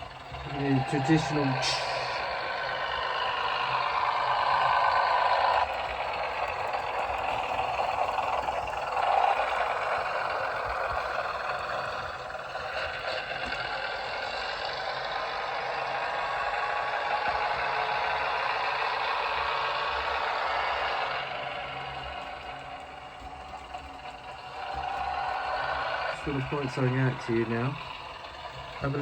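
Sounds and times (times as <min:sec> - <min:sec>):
model train diesel engine sound: 0:00.0 - 0:29.0.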